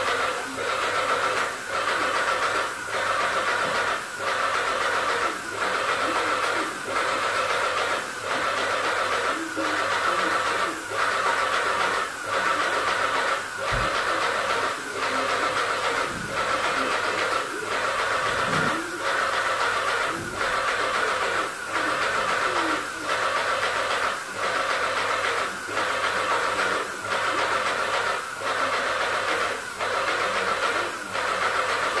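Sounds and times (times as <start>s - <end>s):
paint sprayer hissing: 0.0s - 32.0s.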